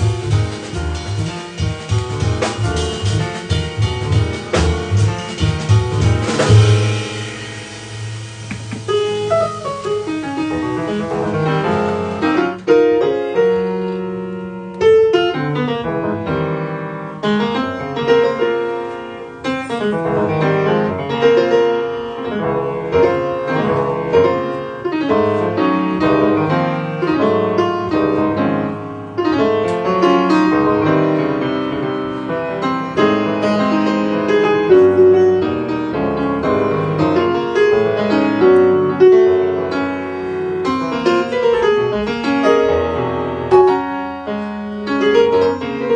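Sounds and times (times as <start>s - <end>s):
jazz piano playing: 0.0s - 45.9s.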